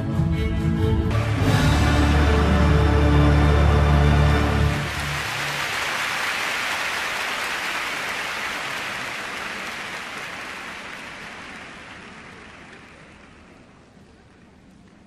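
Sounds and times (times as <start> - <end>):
crowd applauding: 1.1 - 14.6.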